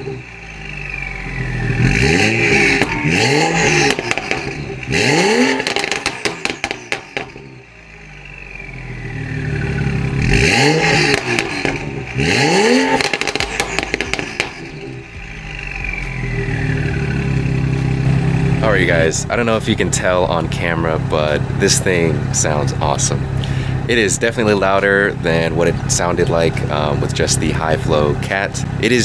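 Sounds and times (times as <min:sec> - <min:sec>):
car engine revving: 0:00.0 - 0:29.0
exhaust crackling burbles: 0:00.0 - 0:29.0.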